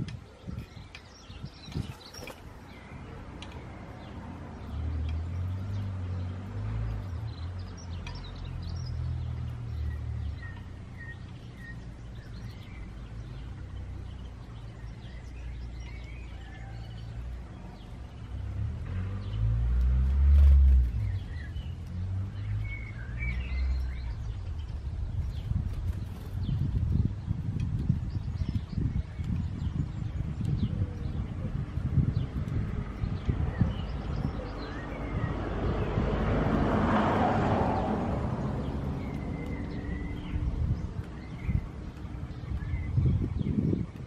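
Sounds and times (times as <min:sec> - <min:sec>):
garden birds chirping: 0:00.0 - 0:44.0.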